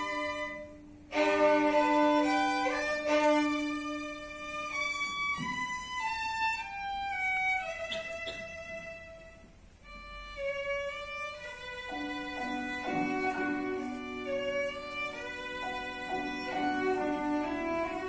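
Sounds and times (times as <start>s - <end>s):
violin playing slow melody: 0.0s - 18.0s.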